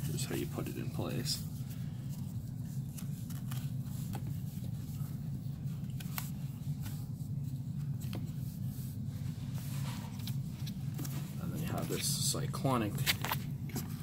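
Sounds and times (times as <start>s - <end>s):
soft rubbing of filter: 0.0s - 14.0s
steady low hum: 0.0s - 14.0s.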